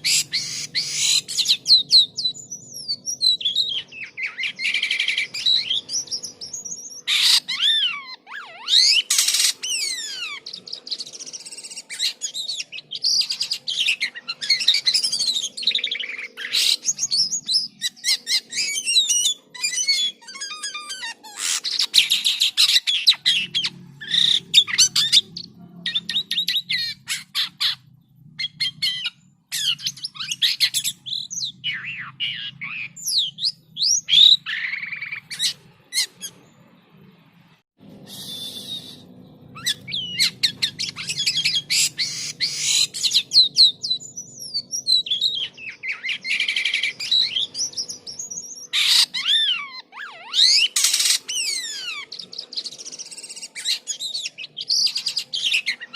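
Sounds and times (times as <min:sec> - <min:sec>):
starling singing: 0:00.0 - 0:36.8, 0:37.9 - 0:55.9.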